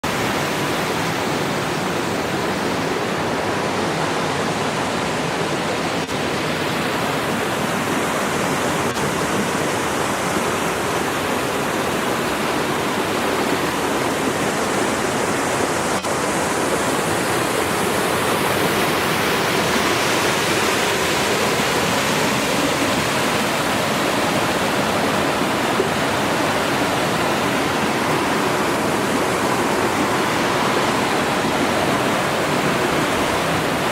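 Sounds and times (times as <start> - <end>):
river water over boulders: 0.0 - 33.9
waterfall rushing: 0.0 - 33.9.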